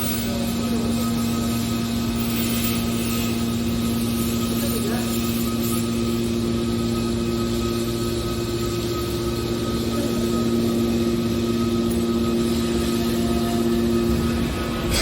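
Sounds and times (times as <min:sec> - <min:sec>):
baler motor and pump humming: 0:00.0 - 0:15.0.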